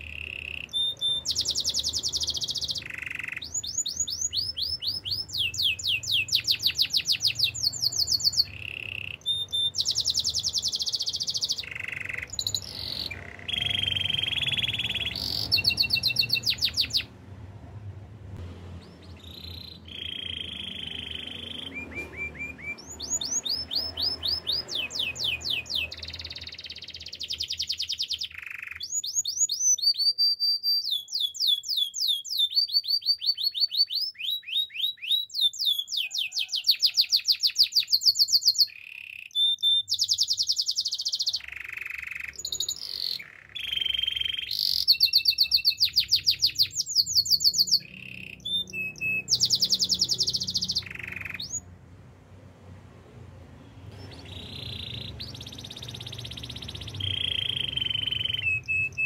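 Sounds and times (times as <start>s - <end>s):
canary singing trills: 0.0s - 17.2s, 18.8s - 51.8s, 53.7s - 59.0s.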